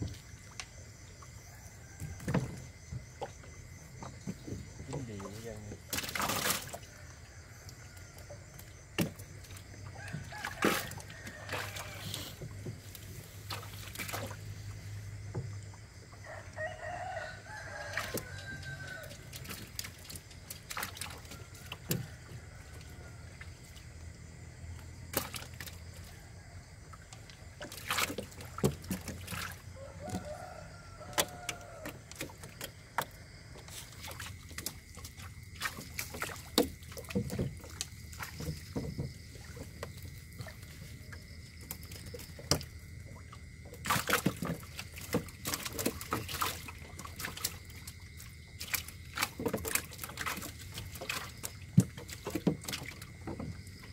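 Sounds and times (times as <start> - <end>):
water splashing and sloshing: 0.0 - 53.9.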